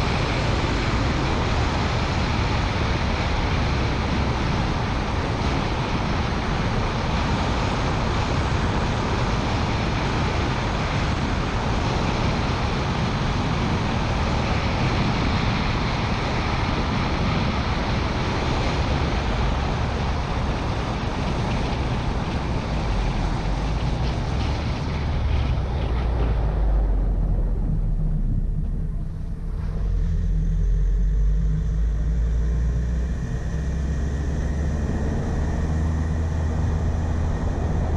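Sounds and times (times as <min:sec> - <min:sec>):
car engine rumbling: 0:00.0 - 0:37.9
wind and tyre noise: 0:00.0 - 0:37.9.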